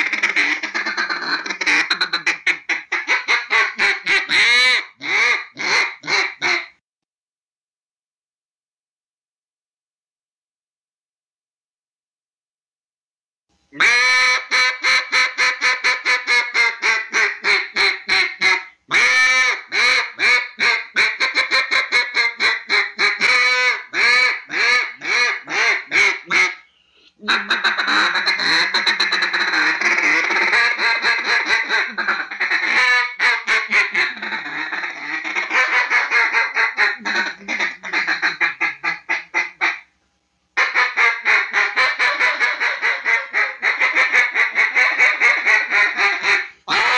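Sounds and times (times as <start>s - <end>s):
duck quacking: 0.0s - 6.8s, 13.8s - 39.9s, 40.6s - 46.9s.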